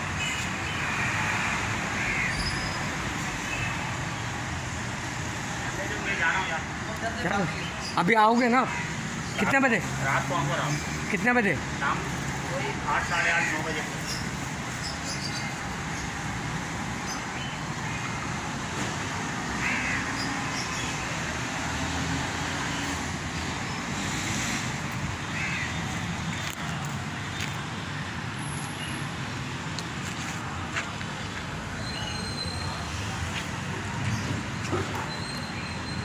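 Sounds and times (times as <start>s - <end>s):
road traffic noise: 0.0s - 36.0s.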